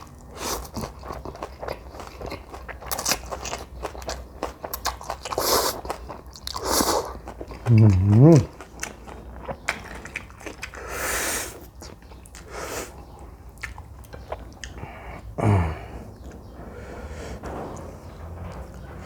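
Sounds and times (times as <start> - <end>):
wet chewing: 0.0 - 16.4.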